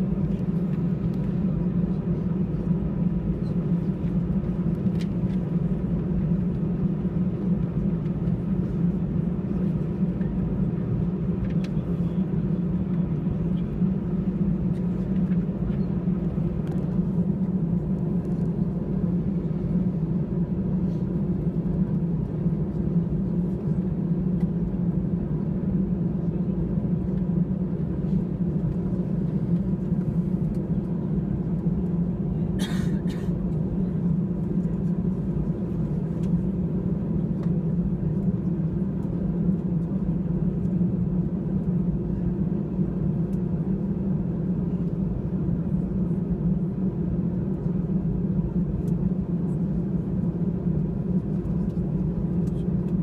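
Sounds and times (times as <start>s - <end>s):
jet engines idling: 0.0s - 53.0s.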